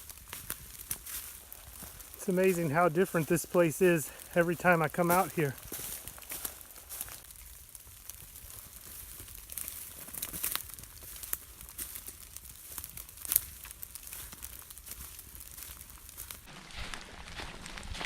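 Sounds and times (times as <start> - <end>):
crinkling rustle of rain gear: 0.0 - 18.0.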